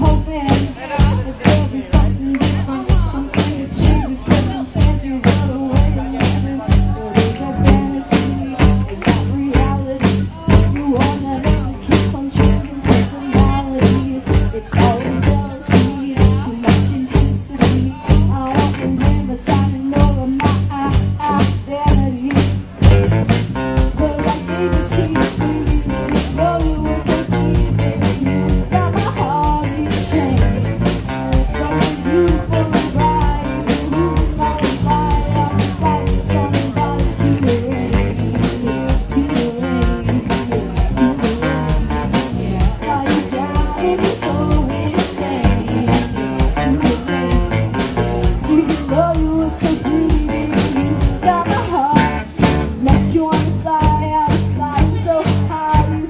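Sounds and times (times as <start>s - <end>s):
bass guitar: 0.0s - 56.0s
drum kit: 0.0s - 56.0s
electric guitar: 0.0s - 56.0s
steady drum beat: 0.0s - 56.0s
woman singing lead vocal: 0.0s - 56.0s.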